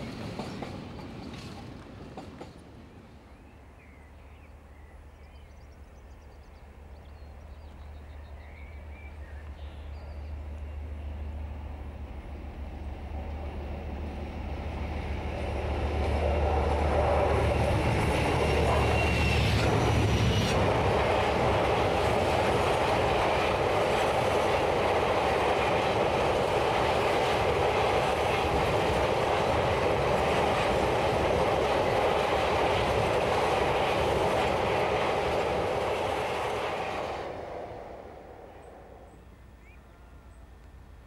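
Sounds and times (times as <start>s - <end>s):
diesel locomotive engine rumbling: 0.0s - 41.0s.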